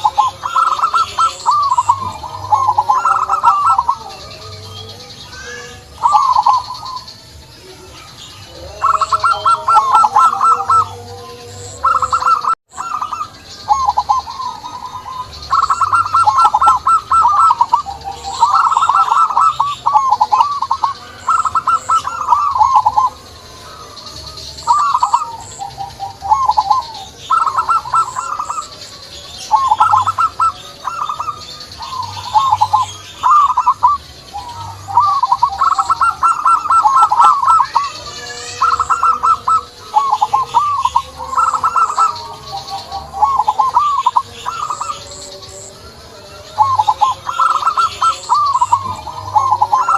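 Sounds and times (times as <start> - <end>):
dove cooing: 0.0 - 7.2, 7.9 - 49.9
small birds chirping: 0.0 - 49.9.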